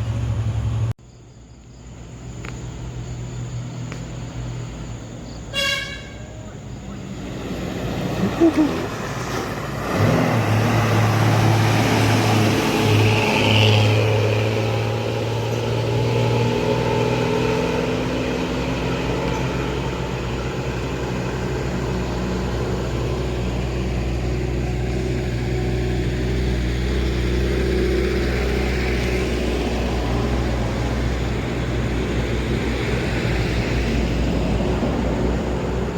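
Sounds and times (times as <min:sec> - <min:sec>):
bus diesel engines: 0:00.0 - 0:01.0, 0:01.8 - 0:35.9
road and wind noise: 0:00.0 - 0:35.9.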